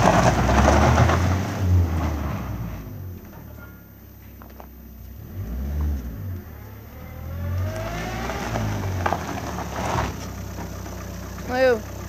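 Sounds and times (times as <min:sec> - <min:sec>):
car engine running: 0:00.0 - 0:12.0
tyres on gravel: 0:00.0 - 0:12.0.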